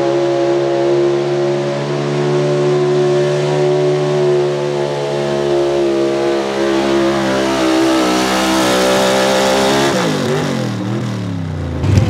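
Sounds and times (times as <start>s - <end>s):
truck engine at high revs: 0.0s - 12.0s.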